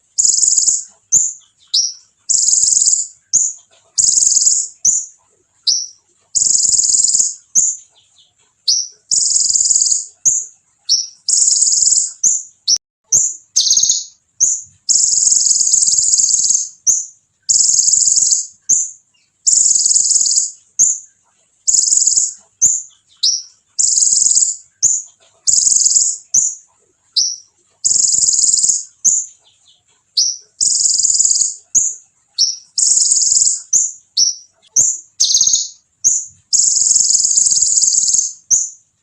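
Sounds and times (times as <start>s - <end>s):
songbird singing shrill phrases: 0.0s - 39.0s.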